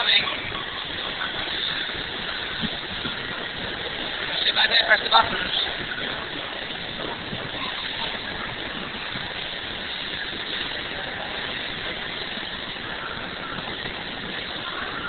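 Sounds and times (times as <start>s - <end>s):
kiddie ride mechanical noise: 0.0s - 15.0s.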